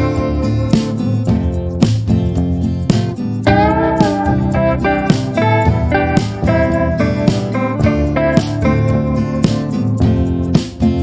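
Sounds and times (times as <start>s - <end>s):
calm instrumental music: 0.0s - 11.0s.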